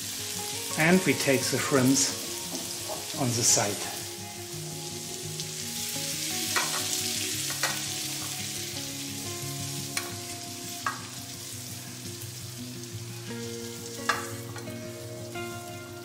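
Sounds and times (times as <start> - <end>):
hot oil sizzling in wok: 0.0 - 16.0.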